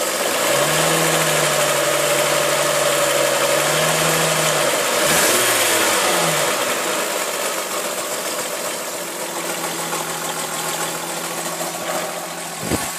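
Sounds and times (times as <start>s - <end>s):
abnormal engine noise: 0.0s - 12.9s
car engine idling: 0.0s - 12.9s.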